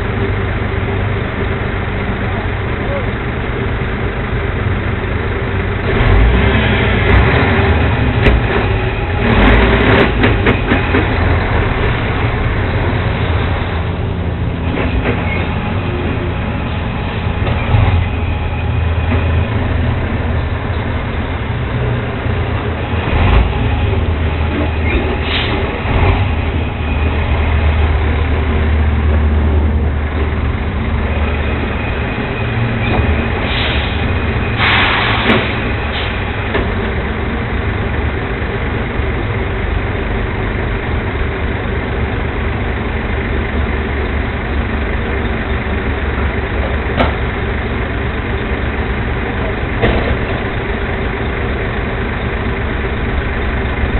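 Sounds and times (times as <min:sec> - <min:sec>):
garbage truck engine running: 0:00.0 - 0:53.9.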